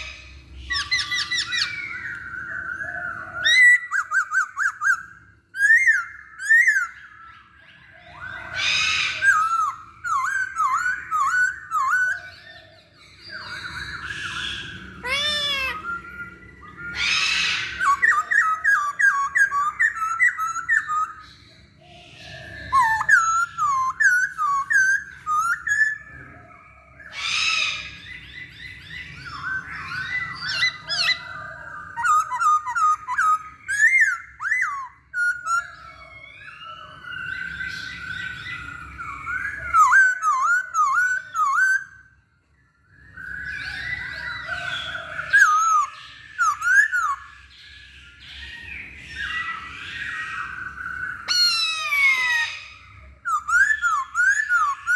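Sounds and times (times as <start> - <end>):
laughingthrush whistled song: 0.0 - 42.2, 43.0 - 54.9.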